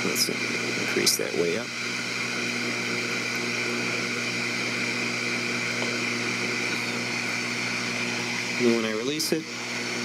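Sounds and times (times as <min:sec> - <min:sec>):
hot air gun humming: 0:00.0 - 0:10.0.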